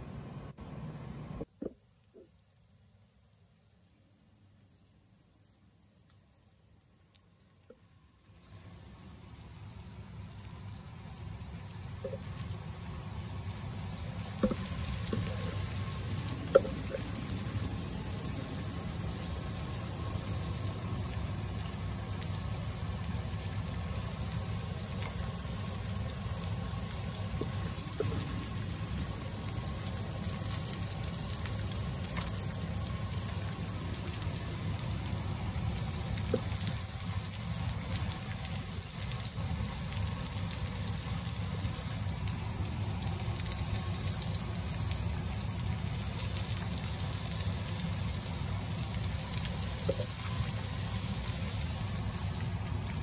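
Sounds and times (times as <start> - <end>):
food bubbling and sizzling: 1.4 - 53.0.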